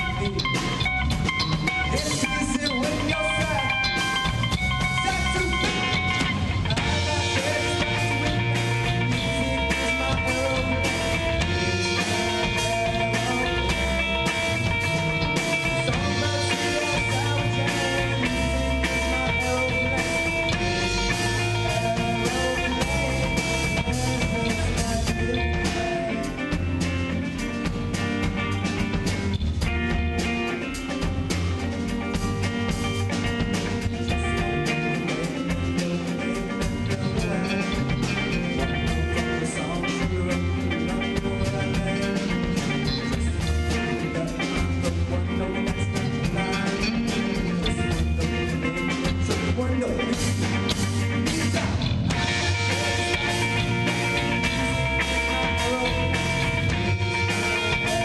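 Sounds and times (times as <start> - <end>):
drum kit with cymbals: 0.0 - 58.0
electric guitar: 0.0 - 58.0
live rock band playing: 0.0 - 58.0.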